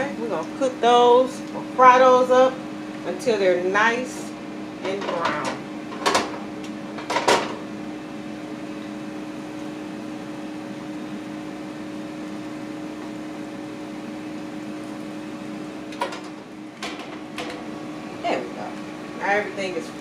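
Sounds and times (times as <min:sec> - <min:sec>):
air fryer fan humming: 0:00.0 - 0:20.0.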